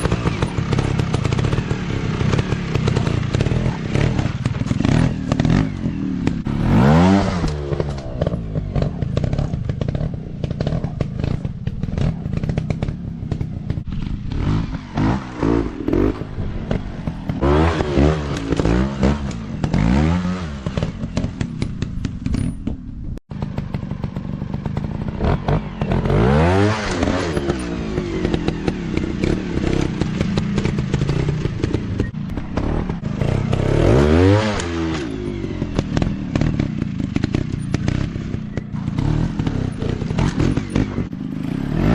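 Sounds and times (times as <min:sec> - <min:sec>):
dirt bike engines revving: 0:00.0 - 0:22.6, 0:23.4 - 0:41.9.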